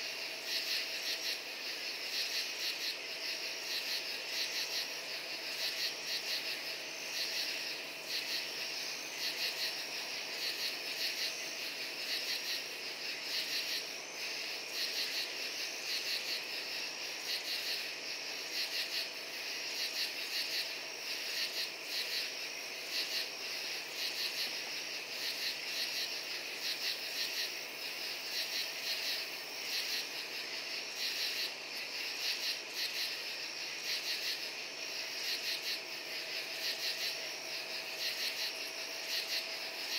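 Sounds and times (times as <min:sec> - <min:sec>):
crickets and katydids chirring: 0:00.0 - 0:39.9.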